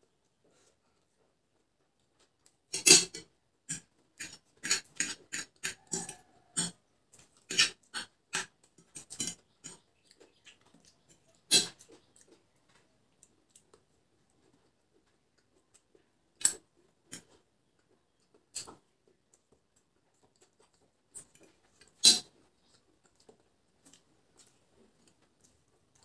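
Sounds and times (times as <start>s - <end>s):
noodles being chewed: 0.5s - 26.0s.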